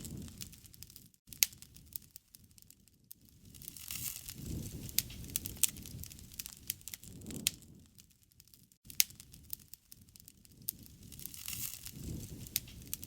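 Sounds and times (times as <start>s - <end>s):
burning wood crackling and popping: 0.0s - 13.0s
wood fire flame rushing: 0.0s - 13.0s.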